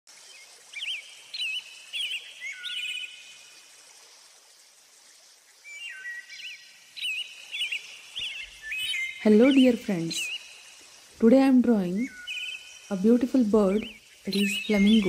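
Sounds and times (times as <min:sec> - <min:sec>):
faint steady hiss: 0:00.1 - 0:15.0
small birds chirping: 0:00.2 - 0:03.6, 0:05.1 - 0:15.0.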